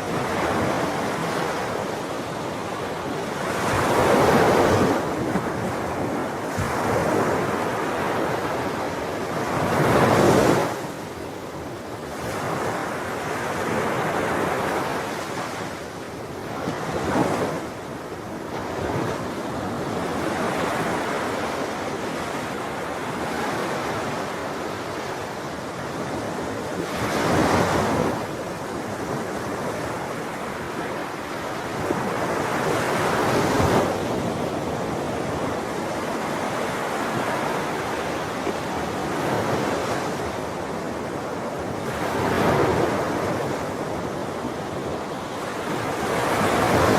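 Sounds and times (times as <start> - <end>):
sea waves breaking ashore: 0.0 - 46.9.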